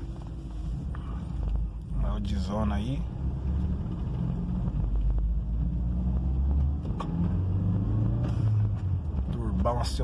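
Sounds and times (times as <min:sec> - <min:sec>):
car engine hum: 0:00.0 - 0:10.0
road rumble: 0:00.0 - 0:10.0.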